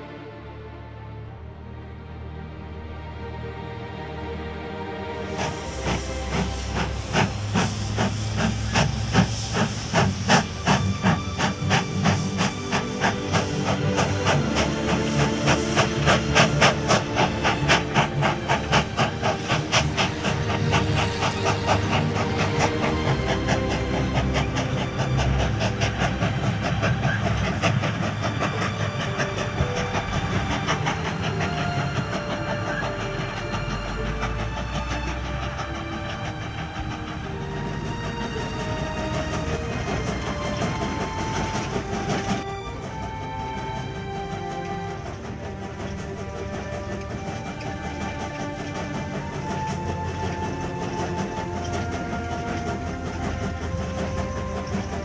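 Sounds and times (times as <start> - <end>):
steam locomotive chuffing: 0.0 - 55.0
steam hissing: 4.6 - 55.0.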